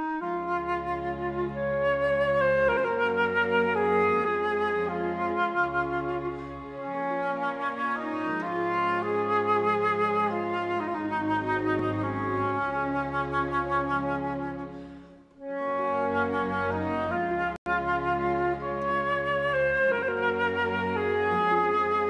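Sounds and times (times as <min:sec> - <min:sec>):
instrumental music with sustained notes: 0:00.0 - 0:22.0.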